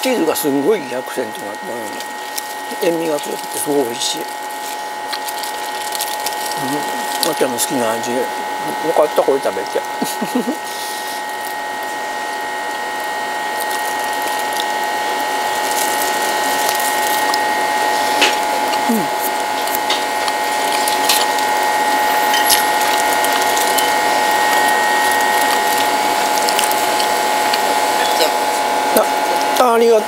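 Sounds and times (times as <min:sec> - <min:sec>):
mechanical buzzing whir: 0:00.0 - 0:30.0.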